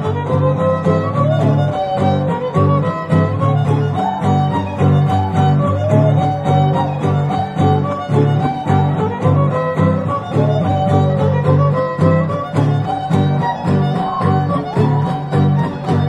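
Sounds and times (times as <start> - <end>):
strummed guitar rhythm: 0.0 - 16.0
violin playing dance tune: 0.0 - 16.0.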